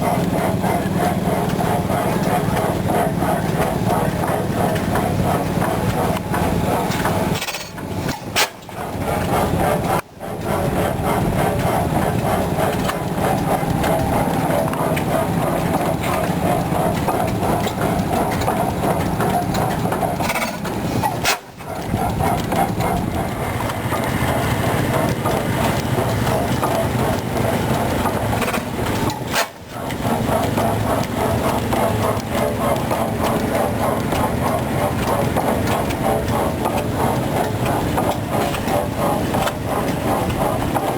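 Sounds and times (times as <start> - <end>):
engine rhythmic mechanical clatter: 0.0 - 40.9.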